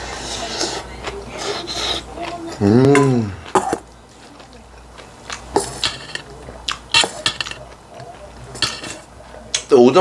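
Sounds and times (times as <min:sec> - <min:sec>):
chewing: 0:00.1 - 0:09.7.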